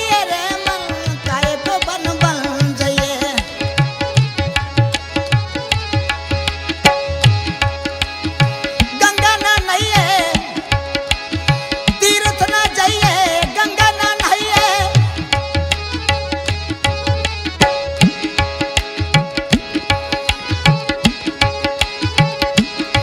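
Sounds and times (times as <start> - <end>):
hand drums: 0.0 - 23.0.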